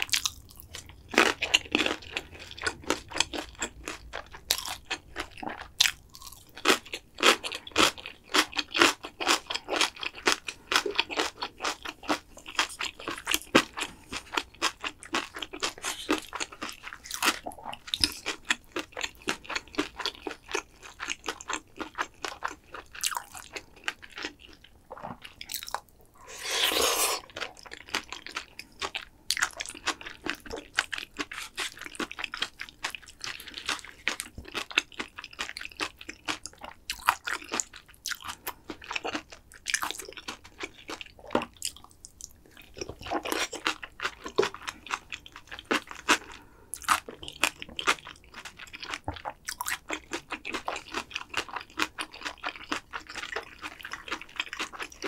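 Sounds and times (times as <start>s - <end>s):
crunching crispy food: 0.0s - 55.0s.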